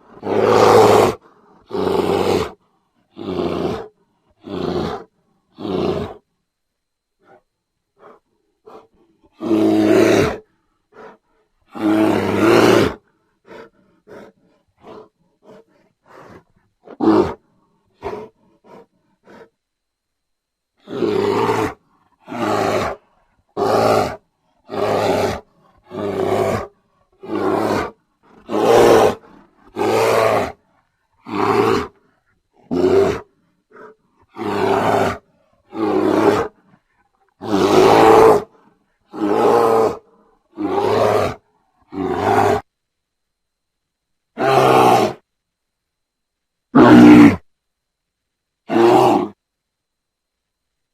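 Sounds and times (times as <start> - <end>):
bear roaring: 0.0 - 6.2, 8.0 - 19.5, 20.8 - 30.6, 31.2 - 42.7, 44.4 - 45.2, 46.8 - 47.5, 48.7 - 49.4.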